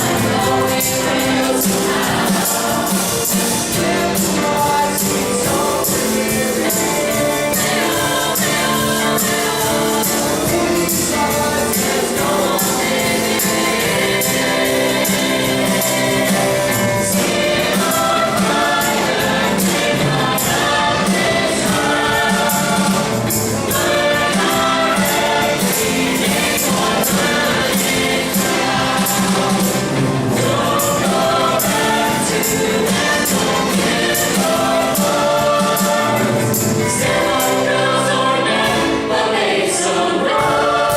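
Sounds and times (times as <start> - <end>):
group singing: 0.0 - 40.9
musical accompaniment with beat: 0.0 - 40.9.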